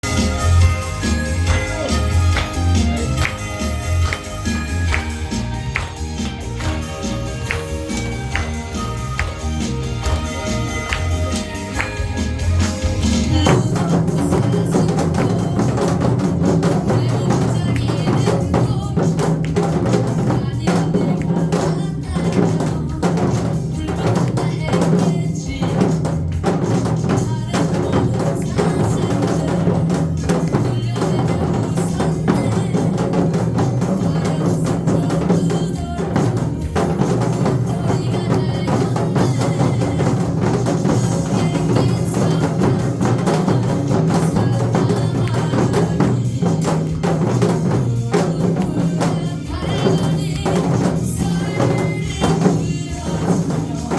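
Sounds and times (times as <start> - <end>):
hourglass drums ensemble: 0.0 - 53.9.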